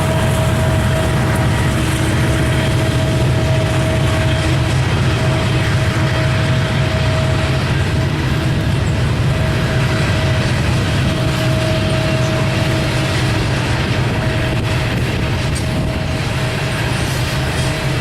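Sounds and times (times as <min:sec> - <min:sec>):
thin steady whine: 0:00.0 - 0:18.0
train wheels rumbling on rail: 0:00.0 - 0:18.0.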